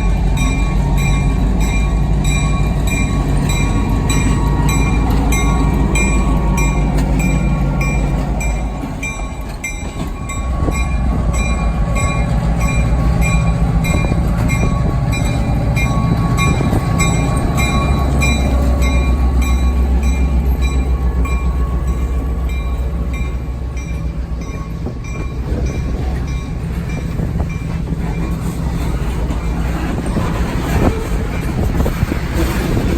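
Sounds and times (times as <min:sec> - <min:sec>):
locomotive bell ringing: 0:00.0 - 0:32.2
train rumbling past: 0:00.0 - 0:32.9.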